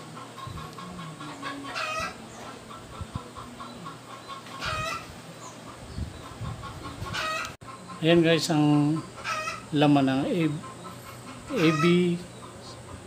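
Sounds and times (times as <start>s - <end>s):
faint bird chirping: 0.4s - 13.0s.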